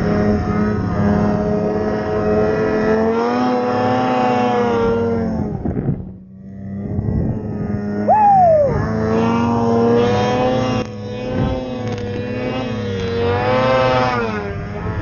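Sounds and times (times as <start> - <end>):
snowmobile engine running hard: 0.0 - 15.0.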